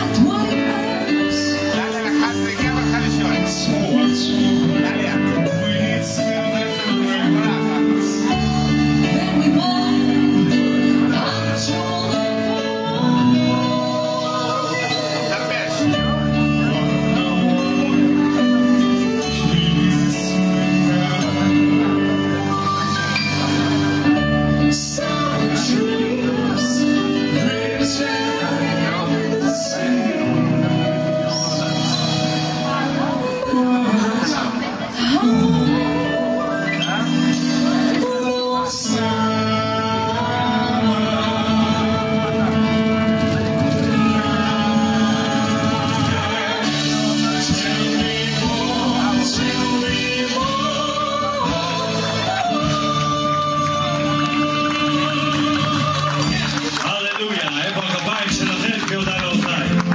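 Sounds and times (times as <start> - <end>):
amplified live stage music: 0.0 - 59.9
people singing into microphones: 0.0 - 59.9.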